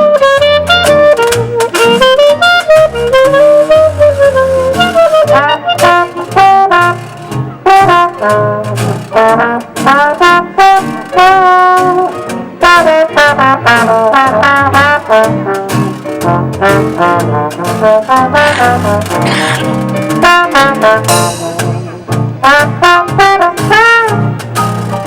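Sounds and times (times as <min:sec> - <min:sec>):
brass band playing jazz: 0:00.0 - 0:25.0
keyboard: 0:00.0 - 0:25.0.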